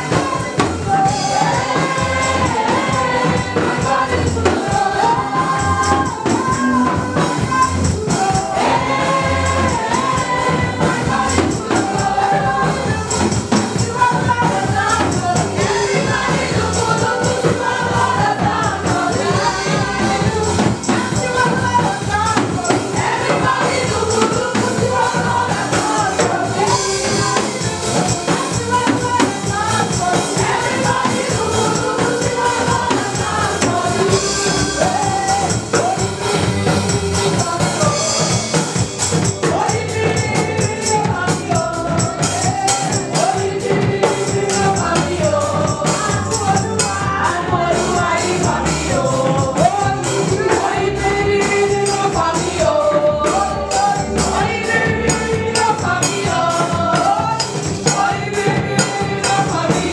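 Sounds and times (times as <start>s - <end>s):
congregation singing worship music: 0.0s - 59.9s
fast steady beat: 0.0s - 59.9s.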